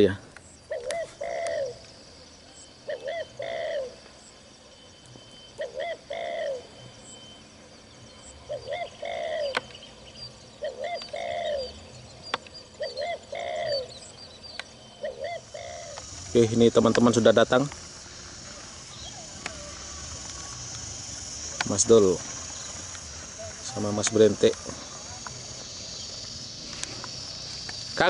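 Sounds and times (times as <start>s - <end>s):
small bird chirping: 0.0s - 28.0s
dove cooing: 0.7s - 1.8s, 2.5s - 4.0s, 5.5s - 11.9s, 12.8s - 14.2s, 14.8s - 27.9s.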